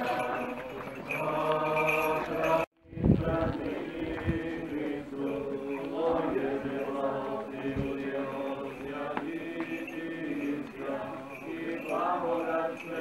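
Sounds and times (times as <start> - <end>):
group singing a slow chant: 0.0 - 13.0.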